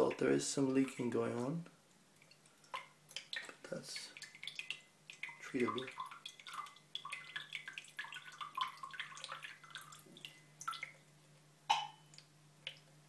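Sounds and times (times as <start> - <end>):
water dripping into a tank: 0.0 - 13.0.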